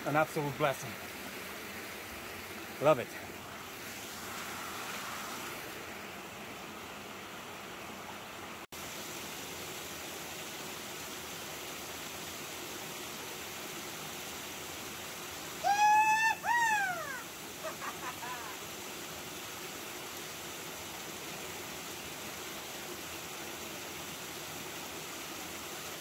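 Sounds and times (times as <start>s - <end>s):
waterfall and stream rushing: 0.0s - 26.0s.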